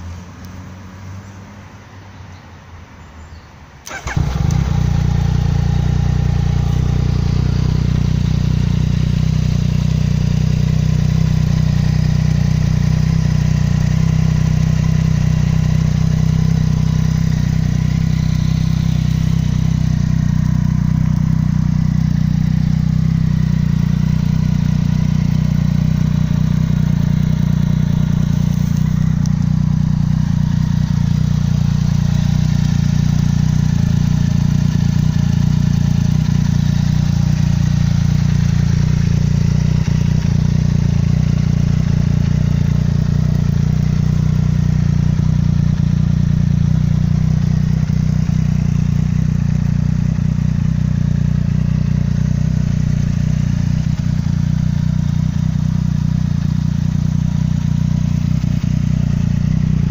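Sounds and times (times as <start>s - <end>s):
motorcycle engine starting and idling: 3.8s - 59.9s.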